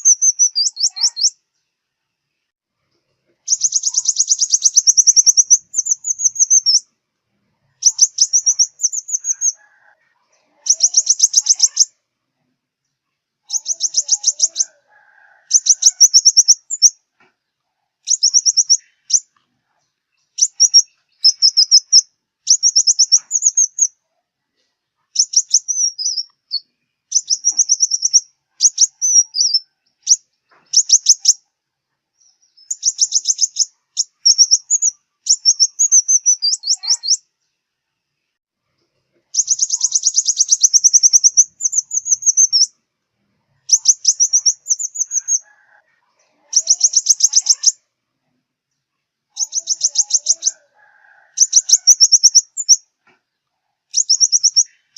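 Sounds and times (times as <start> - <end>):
bird singing high ticking phrases: 0.0 - 12.1, 12.7 - 14.8, 15.4 - 17.3, 18.0 - 24.1, 24.9 - 31.5, 32.2 - 42.9, 43.5 - 47.9, 48.6 - 52.9, 53.8 - 54.9.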